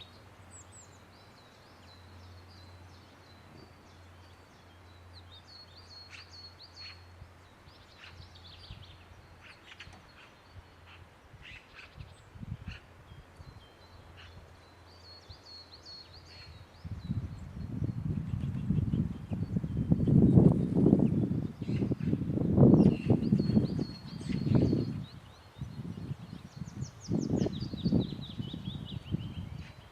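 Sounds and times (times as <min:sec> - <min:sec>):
birds singing and chirping: 0:00.0 - 0:29.9.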